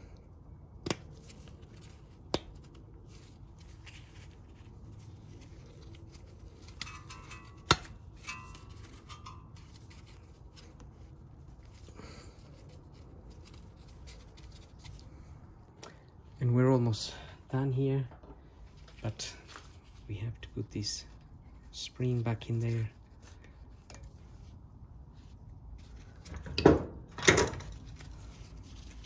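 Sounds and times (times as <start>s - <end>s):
gloved hands rubbing: 0.7s - 15.7s, 18.5s - 26.3s, 27.8s - 29.0s.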